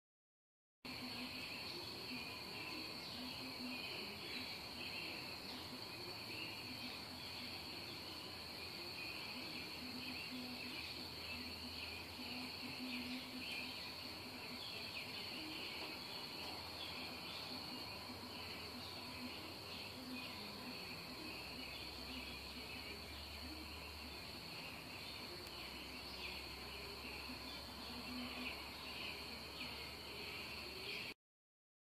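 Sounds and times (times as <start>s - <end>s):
insects chirping: 0.9s - 31.2s.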